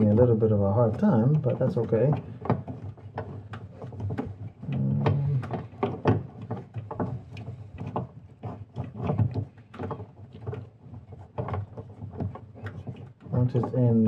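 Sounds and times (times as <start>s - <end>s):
plastic clicks and rattles: 0.0s - 14.0s.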